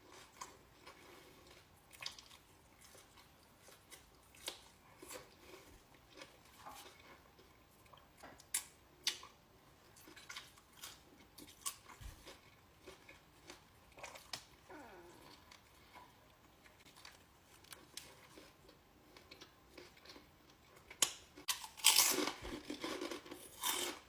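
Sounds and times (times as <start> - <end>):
person chewing a sandwich: 0.0 - 24.0.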